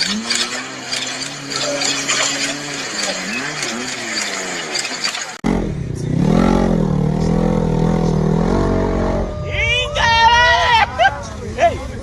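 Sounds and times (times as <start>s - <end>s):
off-road engines revving: 0.0s - 12.0s.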